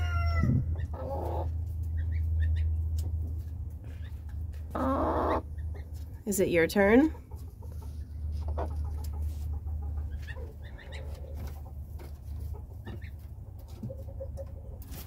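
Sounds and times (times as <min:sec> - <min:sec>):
low steady rumble: 0:00.0 - 0:14.9
hen clucking: 0:00.0 - 0:15.0.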